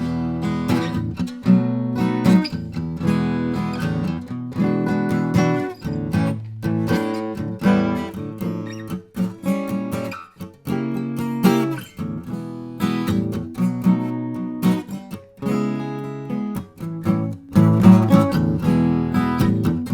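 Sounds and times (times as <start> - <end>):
acoustic guitar strumming: 0.0 - 19.9.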